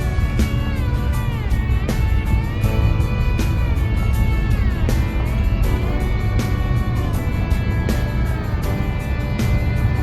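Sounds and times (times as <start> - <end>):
music with steady beat and bass: 0.0 - 10.0.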